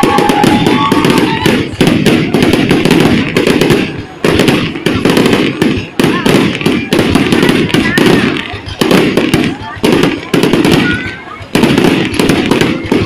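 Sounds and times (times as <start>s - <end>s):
crowd voices: 0.0s - 13.0s
fireworks bangs and crackling: 0.0s - 13.0s.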